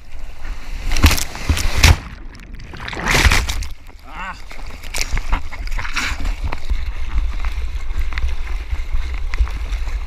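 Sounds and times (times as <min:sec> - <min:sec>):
seawater sloshing and splashing: 0:00.0 - 0:10.0
low rumble of water buffeting: 0:01.5 - 0:10.0.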